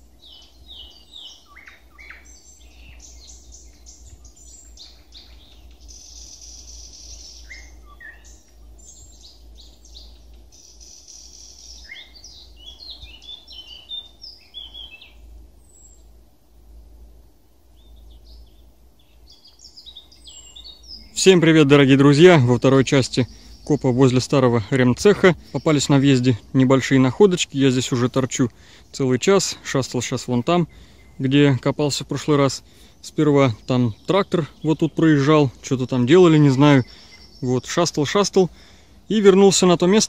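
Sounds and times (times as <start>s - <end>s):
steady low rumble: 0.0s - 39.1s
songbirds chirping and trilling: 0.0s - 40.0s.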